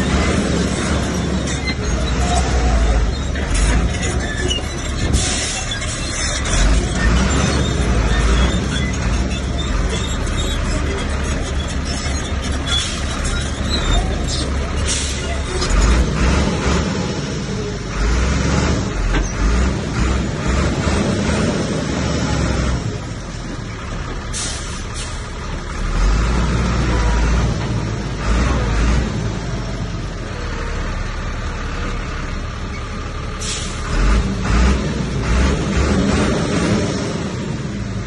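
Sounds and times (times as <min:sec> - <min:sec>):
diesel machinery engine rumble: 0:00.0 - 0:38.0.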